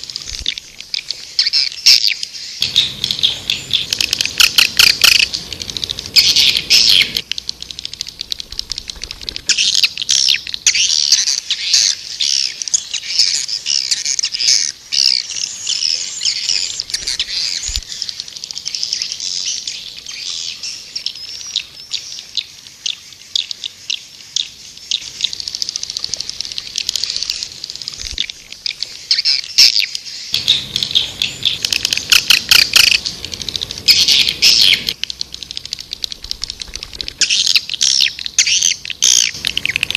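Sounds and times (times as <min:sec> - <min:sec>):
swiftlets twittering: 0:00.0 - 0:21.9, 0:24.5 - 0:39.9.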